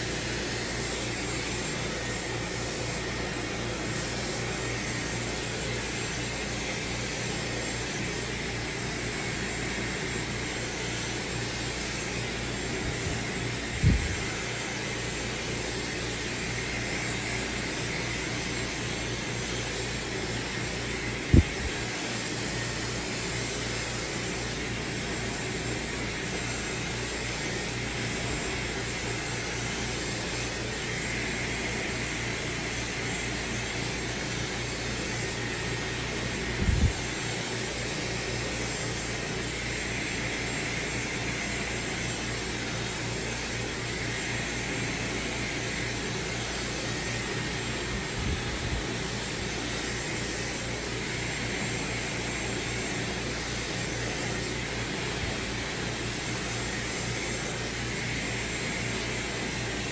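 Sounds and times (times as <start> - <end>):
hair dryer blowing air: 0.0 - 59.9.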